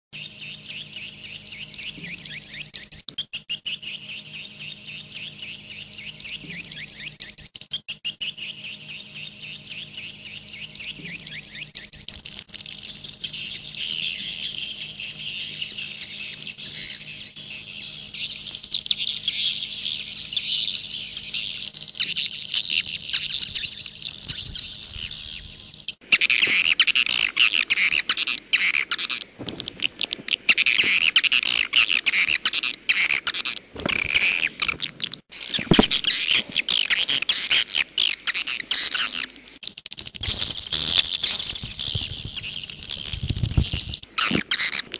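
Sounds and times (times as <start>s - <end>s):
swiftlets twittering: 0.1s - 44.8s.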